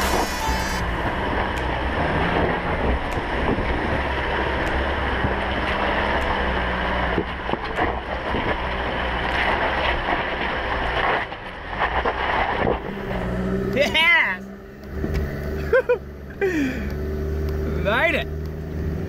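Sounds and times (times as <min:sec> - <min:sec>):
engine pulling hard uphill: 0:00.0 - 0:19.0.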